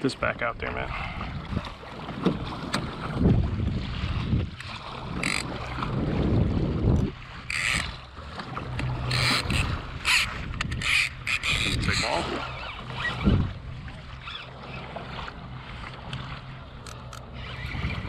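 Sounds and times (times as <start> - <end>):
water splashing against kayak hull: 0.0 - 18.0
wind on microphone: 0.6 - 8.0, 8.7 - 16.4, 17.0 - 18.0.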